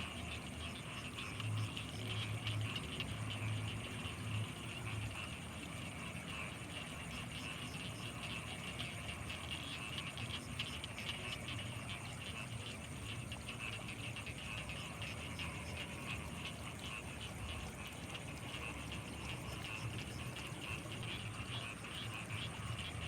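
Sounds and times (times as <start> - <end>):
frogs calling: 0.0 - 23.0.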